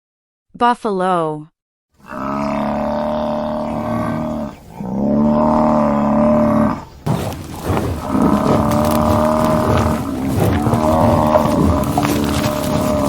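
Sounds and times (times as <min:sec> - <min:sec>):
buffalo bellowing: 0:02.0 - 0:13.0.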